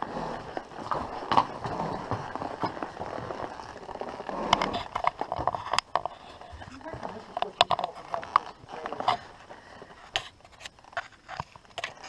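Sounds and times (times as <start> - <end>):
hooves striking stone: 0.0 - 12.0
horse hooves clip-clopping on dirt: 0.0 - 12.0.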